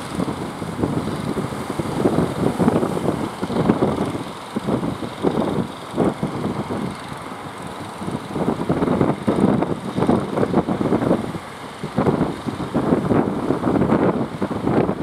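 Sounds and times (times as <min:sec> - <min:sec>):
boat engine running: 0:00.0 - 0:15.0
breaking surf: 0:00.0 - 0:15.0
wind buffeting microphone: 0:00.0 - 0:15.0.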